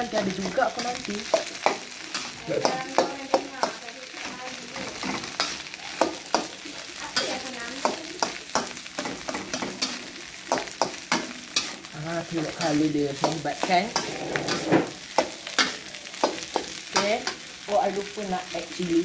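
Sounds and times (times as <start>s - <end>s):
hot pan sizzling: 0.0s - 19.0s
metal spatula scraping a wok: 0.1s - 17.5s.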